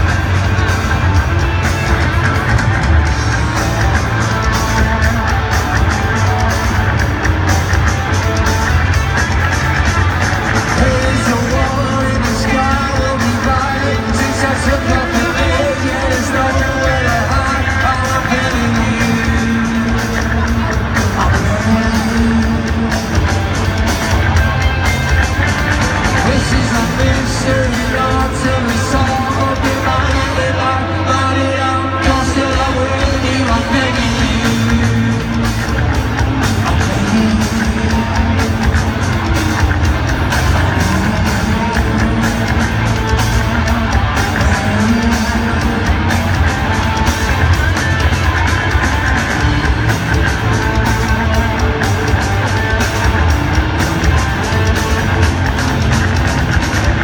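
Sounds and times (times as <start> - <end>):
live band music with singer: 0.0 - 57.0.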